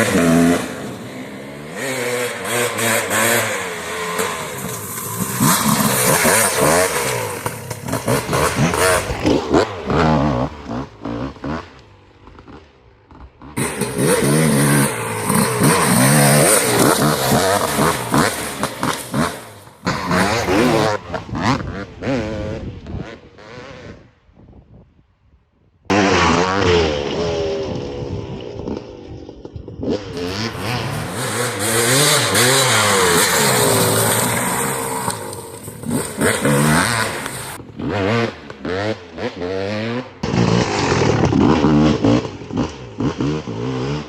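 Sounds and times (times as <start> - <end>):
dirt bike engine revving: 0.0 - 24.1, 25.9 - 29.2, 29.8 - 44.0.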